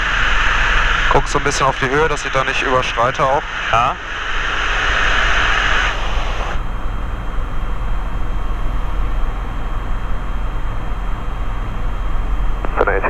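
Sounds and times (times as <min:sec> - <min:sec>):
aircraft engine and propeller drone: 0:00.0 - 0:13.0.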